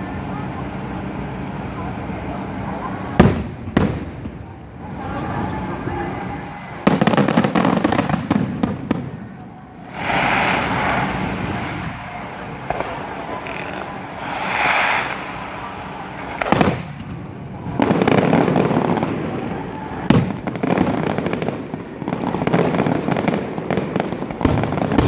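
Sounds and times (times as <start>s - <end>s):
fireworks bursting and crackling: 0.0s - 25.0s.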